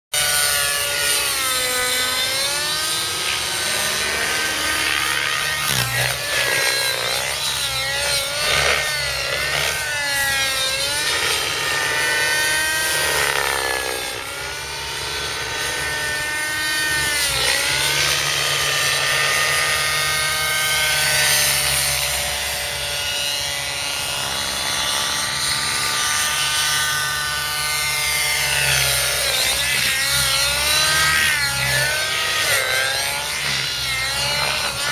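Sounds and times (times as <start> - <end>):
model helicopter engine and rotor whine: 0.2 - 34.9.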